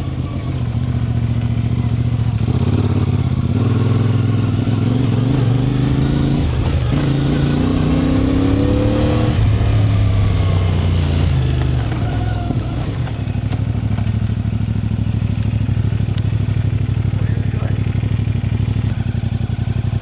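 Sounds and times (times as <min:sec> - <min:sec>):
small vehicle engine running: 0:00.0 - 0:20.0.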